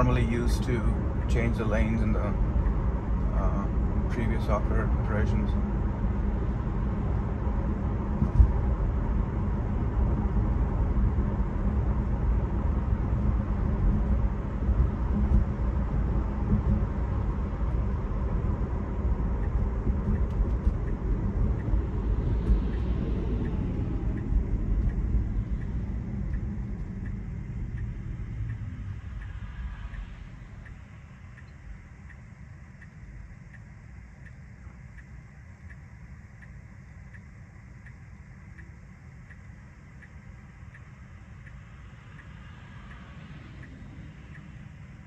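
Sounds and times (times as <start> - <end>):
road and tyre rumble: 0.0 - 45.0.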